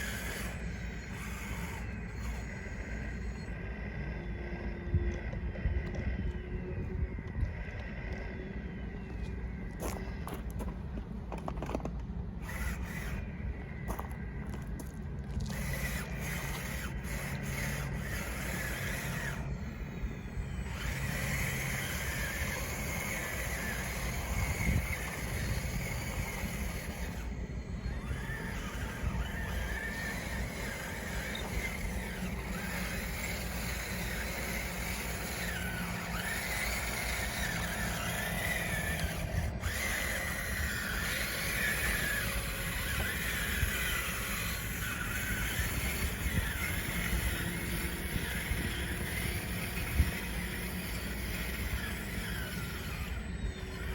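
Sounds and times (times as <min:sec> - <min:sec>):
small electric motors humming: 0:00.0 - 0:53.9.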